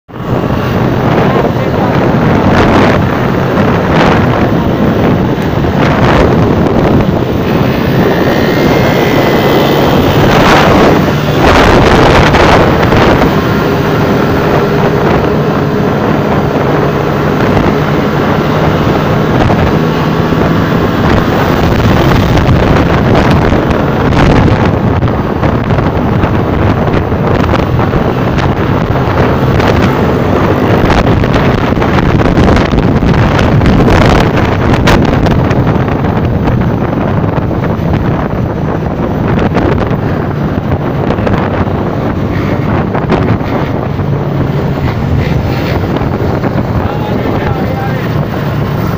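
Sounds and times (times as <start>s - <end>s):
motorcycle engine running: 0.1s - 48.9s
passing traffic rumble: 0.1s - 48.9s
wind buffeting microphone: 0.1s - 48.9s.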